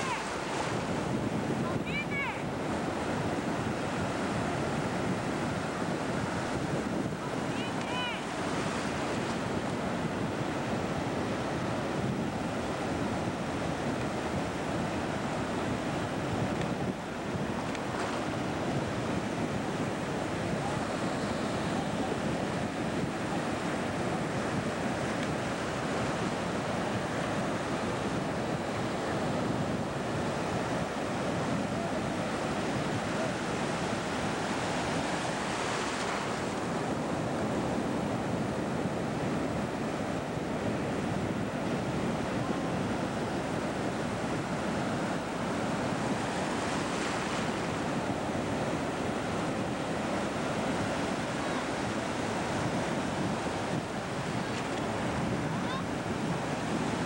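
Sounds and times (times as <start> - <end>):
sea surf breaking: 0.0 - 57.0
wind on the microphone: 0.0 - 57.0.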